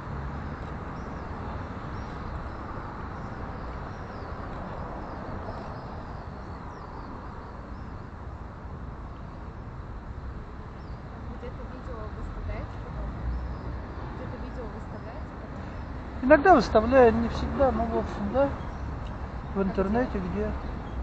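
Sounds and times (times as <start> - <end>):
distant road traffic hum: 0.0 - 21.0
small birds chirping faintly: 0.1 - 21.0.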